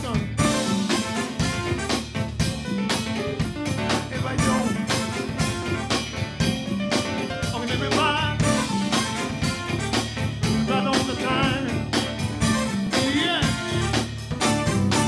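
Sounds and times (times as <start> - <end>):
drum kit beat: 0.0 - 15.0
electric bass: 0.0 - 15.0
electric guitar: 0.0 - 15.0
keyboards: 0.0 - 15.0.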